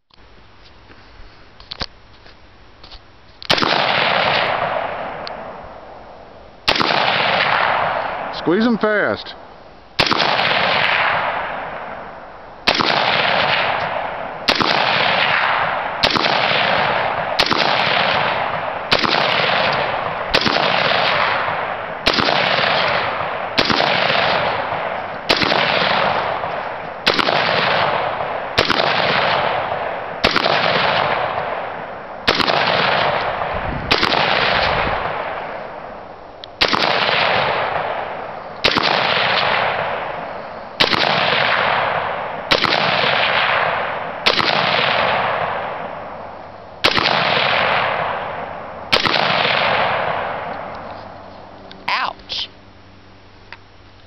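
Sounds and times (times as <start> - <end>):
rifle shots: 3.5 - 6.0, 6.6 - 9.2, 10.0 - 50.8.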